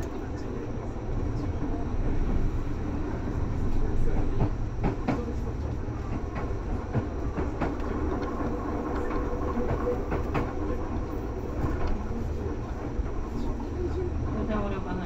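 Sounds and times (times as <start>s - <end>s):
train rumble inside car: 0.0s - 15.0s.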